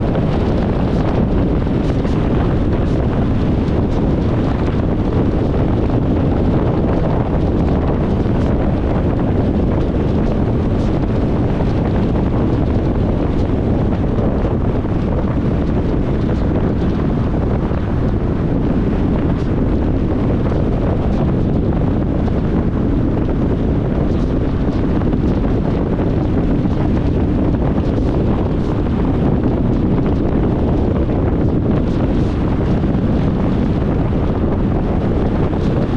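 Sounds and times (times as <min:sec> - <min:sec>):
car driving low rumble: 0:00.0 - 0:35.9.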